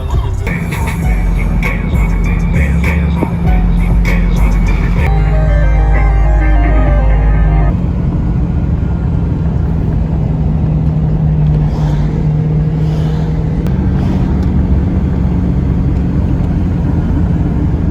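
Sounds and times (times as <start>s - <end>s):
car engine humming: 0.0s - 17.9s
low road noise: 0.0s - 17.9s.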